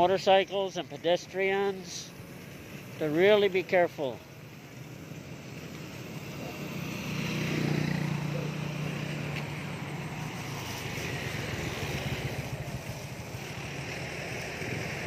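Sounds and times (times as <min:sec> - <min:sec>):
tyres hissing on road: 0:00.0 - 0:15.0
vehicle engine humming: 0:00.0 - 0:15.0.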